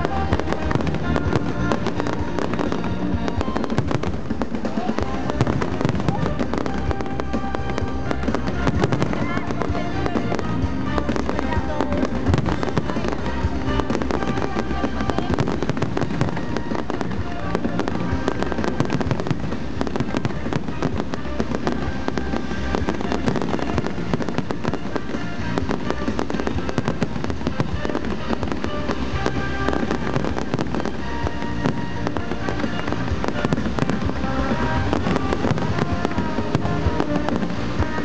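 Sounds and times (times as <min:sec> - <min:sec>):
fireworks bangs and crackling: 0:00.0 - 0:38.0
music playing: 0:00.0 - 0:38.0.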